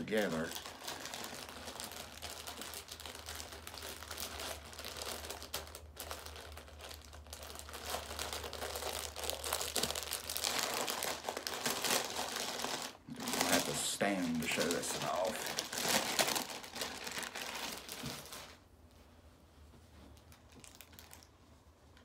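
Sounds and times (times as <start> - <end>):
packaging crinkling and rustling: 0.0 - 18.7, 19.9 - 22.0.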